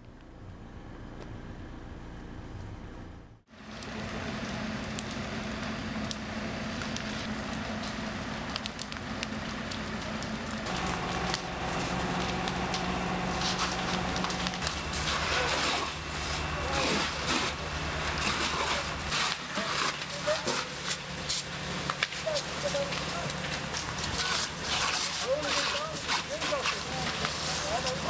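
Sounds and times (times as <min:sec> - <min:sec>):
low engine hum: 0:00.0 - 0:24.8
large fire crackling and popping: 0:03.5 - 0:28.0.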